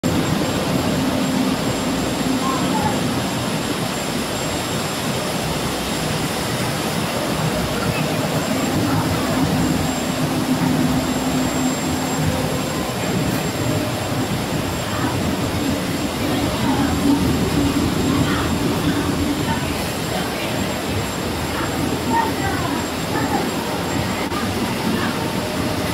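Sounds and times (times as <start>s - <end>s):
production line machinery din: 0.0s - 25.9s.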